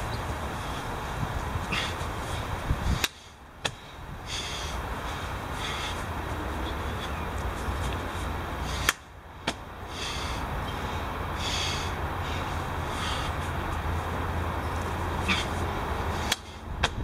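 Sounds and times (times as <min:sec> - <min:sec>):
steady low rumble: 0:00.0 - 0:17.0
man breathing hard: 0:00.5 - 0:07.2, 0:08.5 - 0:16.9.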